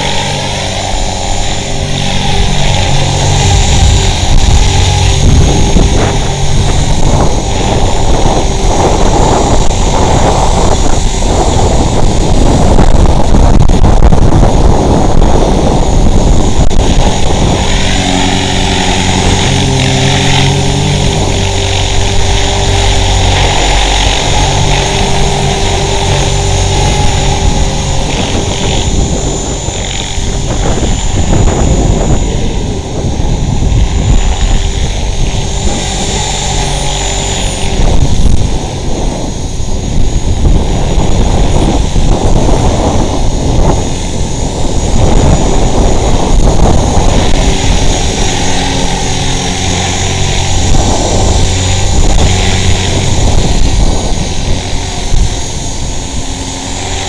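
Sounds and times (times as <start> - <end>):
rc helicopter motor and rotor: 0.0 - 57.0
wind buffeting microphone: 0.0 - 57.0.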